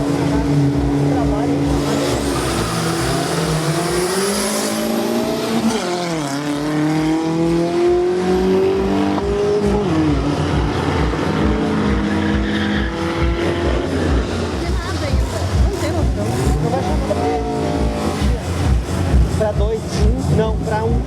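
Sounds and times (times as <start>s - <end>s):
race car accelerating: 0.0s - 21.0s.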